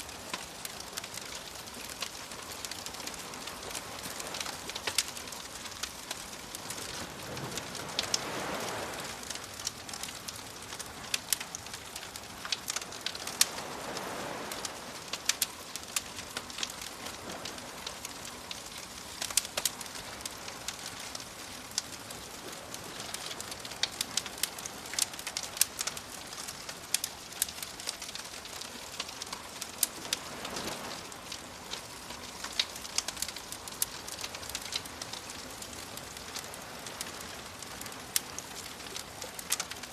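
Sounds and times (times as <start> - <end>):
soft waves washing in: 0.0 - 39.9
wood fire crackling and popping: 0.0 - 39.9.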